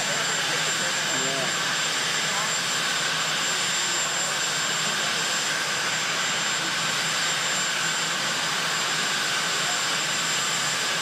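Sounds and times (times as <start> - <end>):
helicopter turbine engines running: 0.0 - 11.0.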